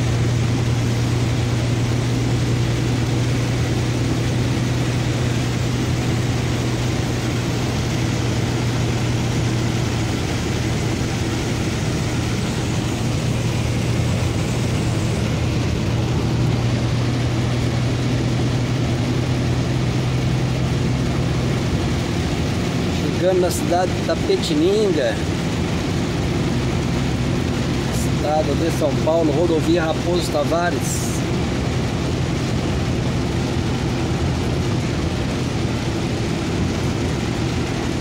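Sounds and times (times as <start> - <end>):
rain and tyres hissing: 0.0 - 38.0
truck engine drone: 0.0 - 38.0.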